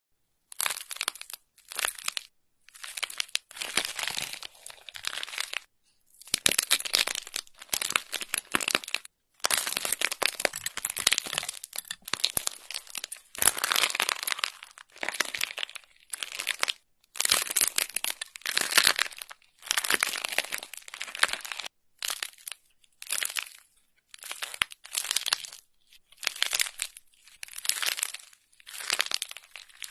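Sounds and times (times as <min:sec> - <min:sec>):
crunchy slime crackling: 0:00.6 - 0:29.9.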